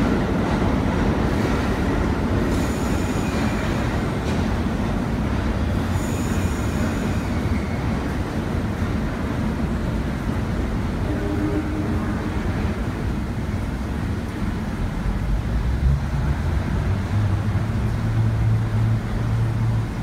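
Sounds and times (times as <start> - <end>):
train rumbling in tunnel: 0.0 - 20.0.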